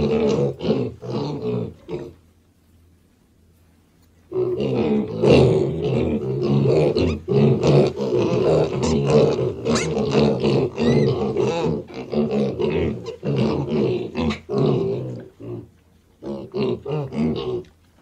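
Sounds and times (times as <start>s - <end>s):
piglets grunting: 0.0s - 2.2s, 4.3s - 17.8s.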